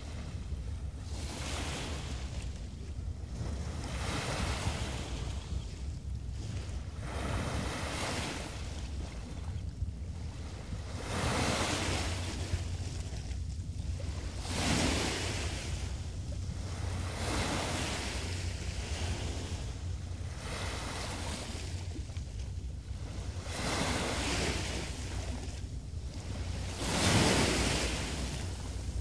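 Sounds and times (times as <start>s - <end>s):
small waves breaking on beach: 0.0s - 29.0s
wind rumble on microphone: 0.0s - 29.0s.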